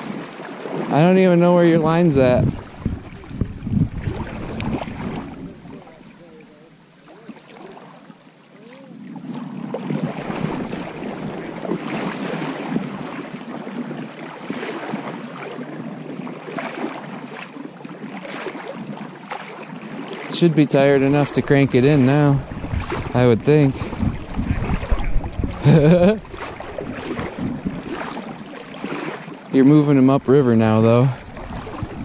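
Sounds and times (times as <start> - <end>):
river water rushing and splashing: 0.0 - 32.0.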